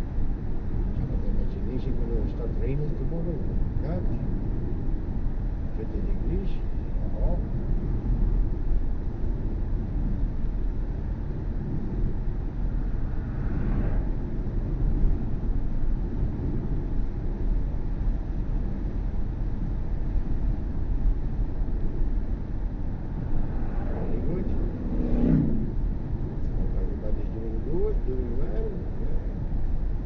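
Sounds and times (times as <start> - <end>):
road and tyre rumble inside car: 0.0 - 30.0.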